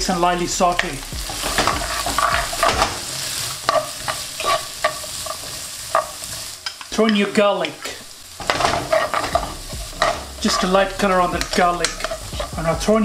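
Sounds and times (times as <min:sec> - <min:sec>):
vegetables sizzling in oil: 0:00.0 - 0:13.0
spatula scraping and tapping pan: 0:00.7 - 0:12.7.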